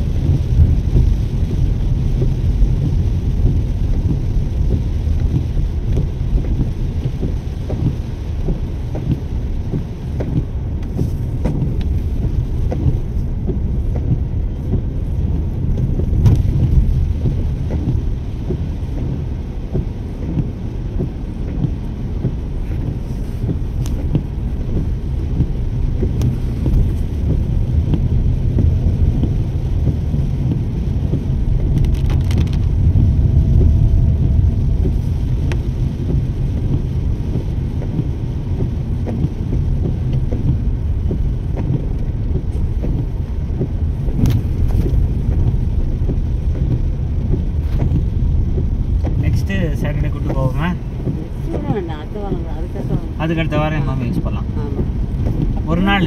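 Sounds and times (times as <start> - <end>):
road and wind rumble: 0.0 - 56.0
light ticks: 0.3 - 56.0.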